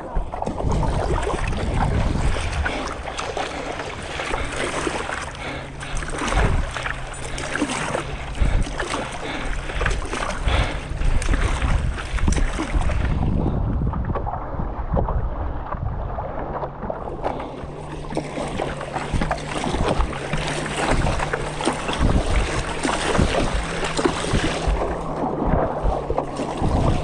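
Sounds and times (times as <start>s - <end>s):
water sloshing and splashing: 0.0s - 27.0s
wind buffeting microphone: 0.0s - 27.0s.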